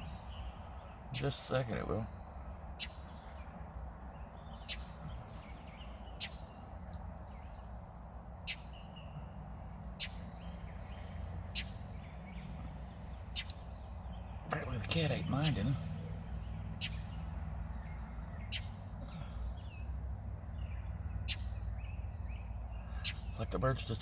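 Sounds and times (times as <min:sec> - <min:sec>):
bird alarm chirps: 0:00.0 - 0:24.0.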